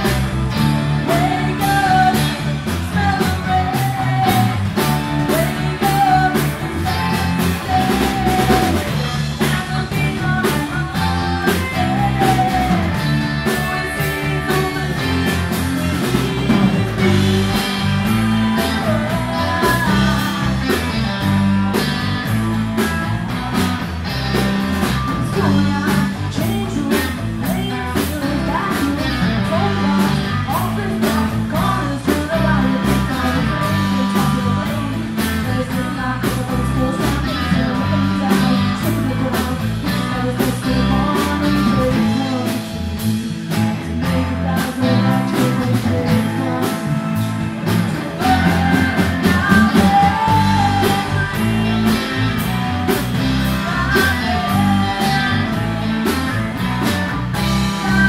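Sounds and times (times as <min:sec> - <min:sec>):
woman singing: 0:00.0 - 0:22.0, 0:24.8 - 0:58.0
drum kit: 0:00.0 - 0:58.0
electric guitars: 0:00.0 - 0:58.0.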